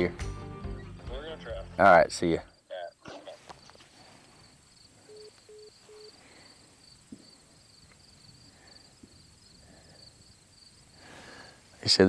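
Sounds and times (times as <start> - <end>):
faint crickets chirping: 1.1 - 12.0.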